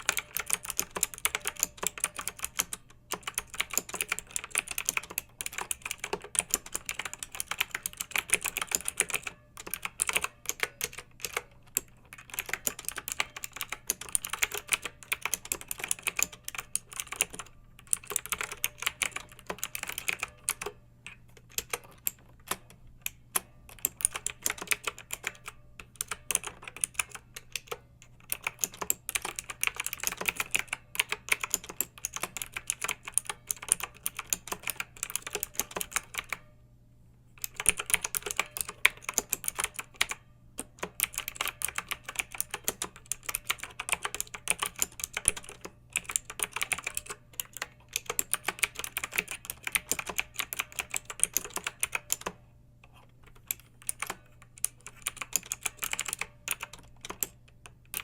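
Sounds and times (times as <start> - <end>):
mechanical keyboard typing: 0.0 - 36.5, 37.4 - 58.0.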